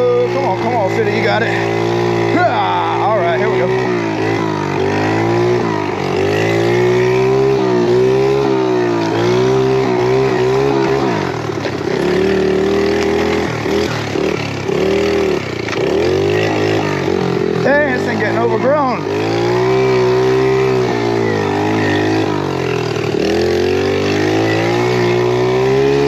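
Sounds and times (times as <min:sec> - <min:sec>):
pit bike engine revving: 0:00.0 - 0:26.0.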